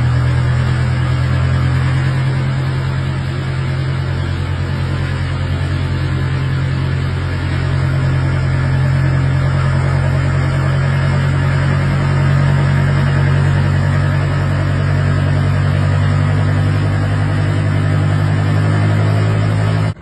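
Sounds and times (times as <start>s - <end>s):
low mechanical drone: 0.0s - 20.0s.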